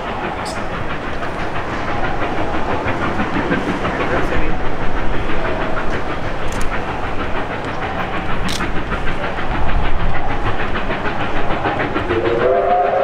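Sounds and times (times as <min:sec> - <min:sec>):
steam hiss and rumble: 0:00.0 - 0:13.0
steam locomotive chuffing: 0:00.0 - 0:13.0.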